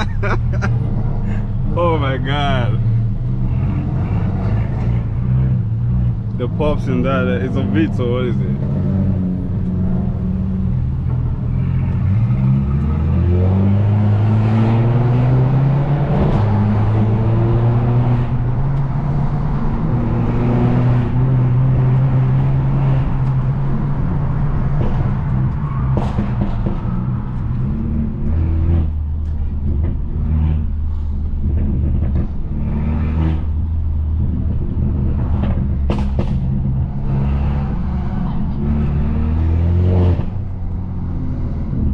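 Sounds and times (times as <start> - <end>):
car engine droning: 0.0 - 41.9.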